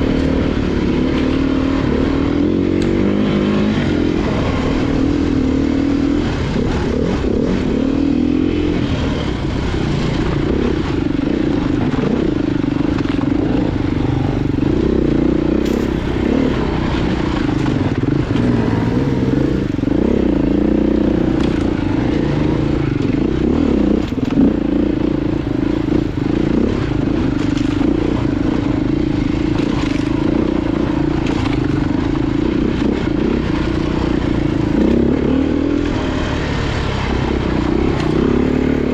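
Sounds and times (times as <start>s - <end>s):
off-road motorcycle engine: 0.0s - 38.9s.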